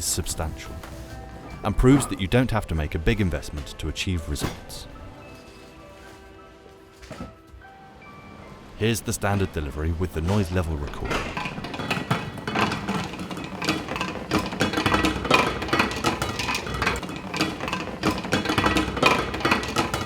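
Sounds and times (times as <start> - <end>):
metal kegs clanging: 0.0 - 5.5, 8.8 - 20.0.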